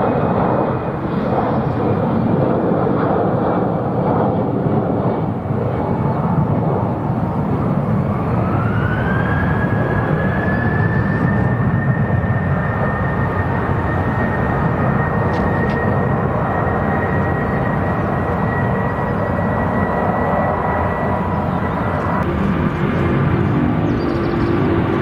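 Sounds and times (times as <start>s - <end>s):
engine whine rising in pitch: 0.0s - 25.0s
jet engines roaring: 0.0s - 25.0s.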